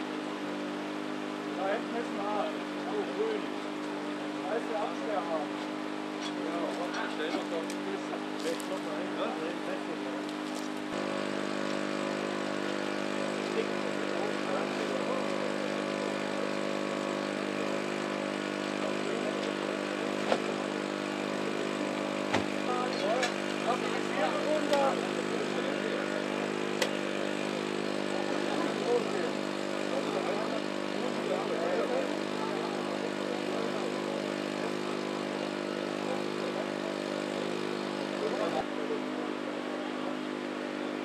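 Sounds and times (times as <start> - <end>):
engine humming steadily: 0.0 - 41.0.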